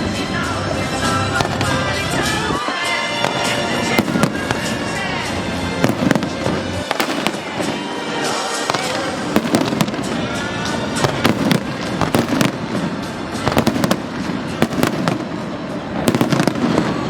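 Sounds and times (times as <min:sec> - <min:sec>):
fireworks crackling: 0:00.0 - 0:17.0
fireworks bangs: 0:01.1 - 0:17.0.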